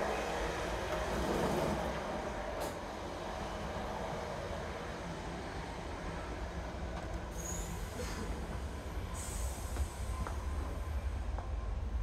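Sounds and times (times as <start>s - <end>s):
moving train low rumble: 0.0s - 12.0s.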